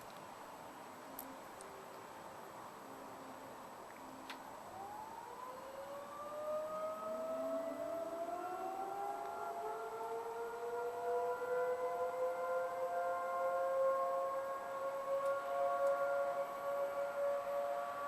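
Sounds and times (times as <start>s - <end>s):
emergency sirens wailing: 2.7s - 18.0s.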